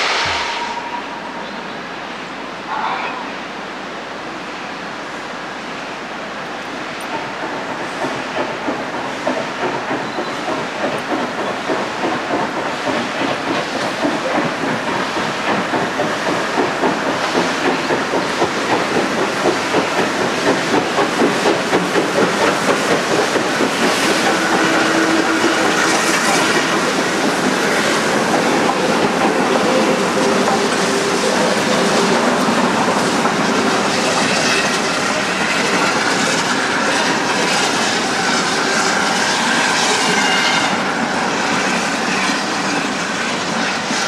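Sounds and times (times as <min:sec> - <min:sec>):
steam locomotive exhaust beats: 0:06.5 - 0:44.0.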